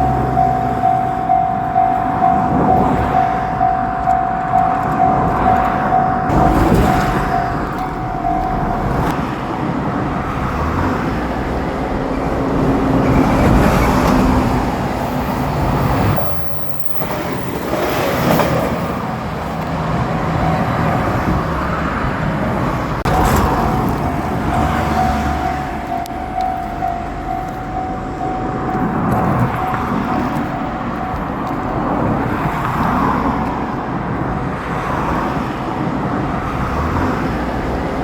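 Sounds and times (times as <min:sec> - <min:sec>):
crossing bell ringing: 0:00.0 - 0:10.2, 0:11.0 - 0:22.4, 0:23.0 - 0:34.5
train rumbling past: 0:00.0 - 0:38.0.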